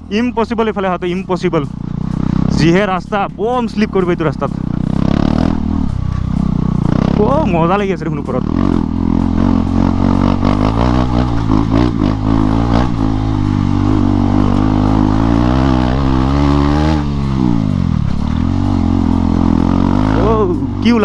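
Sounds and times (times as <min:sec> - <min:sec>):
unmuffled motorcycle engine: 0:00.0 - 0:21.0.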